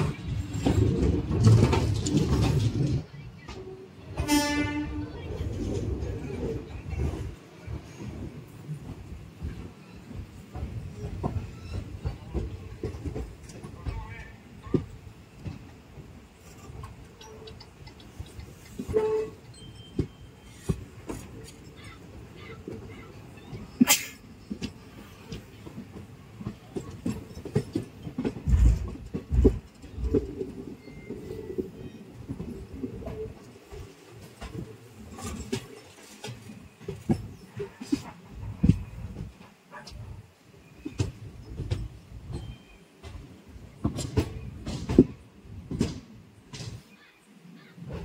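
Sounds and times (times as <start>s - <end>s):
train wheels rumbling on track: 0.0s - 48.0s
wheels clicking over rail joints: 0.0s - 48.0s.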